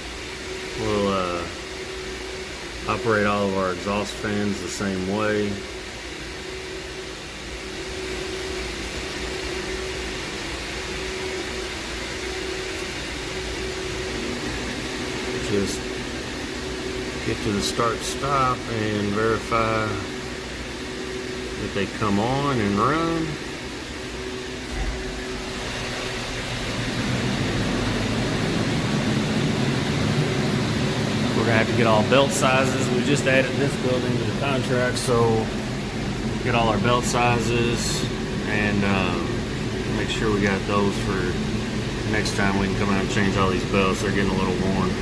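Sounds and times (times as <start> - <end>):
industrial fan whir and hum: 0.0 - 45.0.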